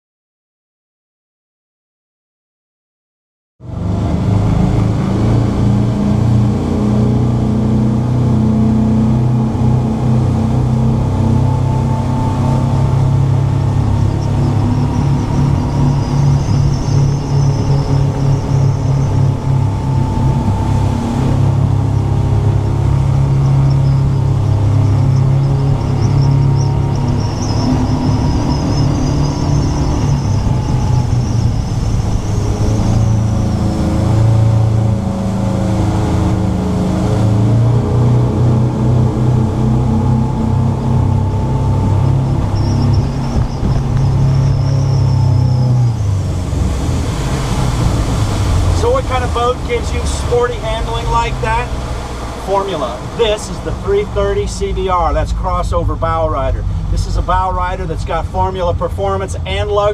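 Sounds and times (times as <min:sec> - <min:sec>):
boat engines running at speed: 0:03.6 - 0:59.9.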